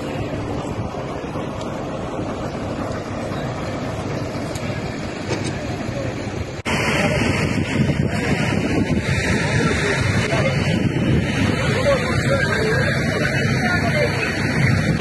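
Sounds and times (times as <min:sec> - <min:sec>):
indistinct voices: 0:00.0 - 0:15.0
loud harsh noise: 0:00.0 - 0:15.0
rumbling vehicle engines: 0:00.0 - 0:15.0.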